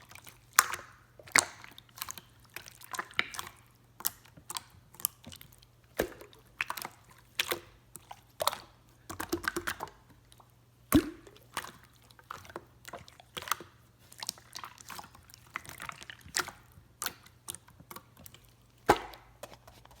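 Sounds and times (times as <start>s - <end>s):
slime squishing with wet pops: 0.0s - 20.0s.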